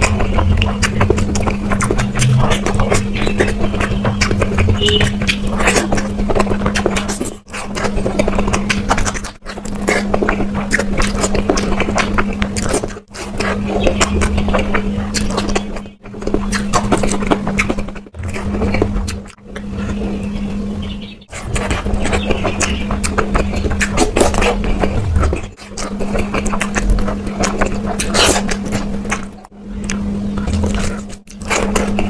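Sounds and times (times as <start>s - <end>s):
steady low hum: 0.0s - 32.0s
wet chewing and smacking: 0.0s - 32.0s.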